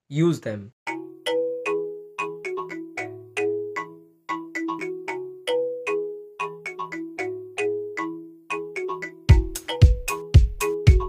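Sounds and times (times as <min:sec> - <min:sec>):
light ringtone-like melody: 0:00.9 - 0:11.0.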